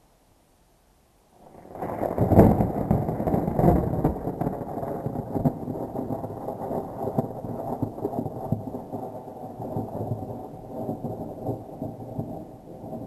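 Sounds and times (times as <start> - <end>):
rolling thunder: 1.4 - 13.0.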